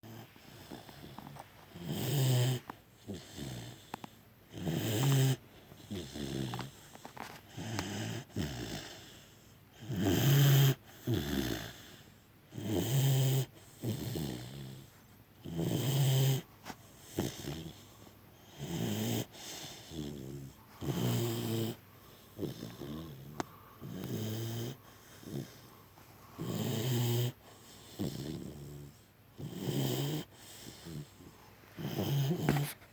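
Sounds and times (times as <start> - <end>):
loud rasping snoring: 0.0 - 6.8, 7.5 - 9.2, 9.8 - 25.7, 26.4 - 31.2, 31.8 - 32.8.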